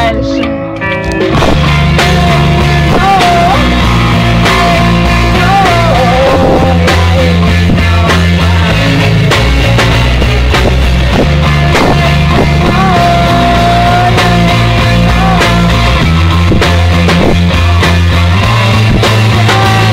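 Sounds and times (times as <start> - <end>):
loud rock music: 0.0 - 19.9.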